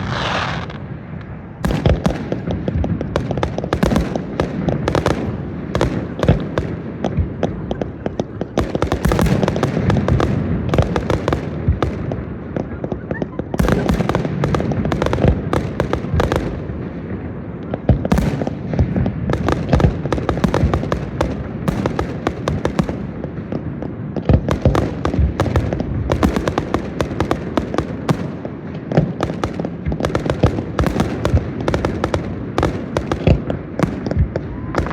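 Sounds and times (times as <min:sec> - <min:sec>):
fireworks bursts and crackling: 0:00.0 - 0:34.9.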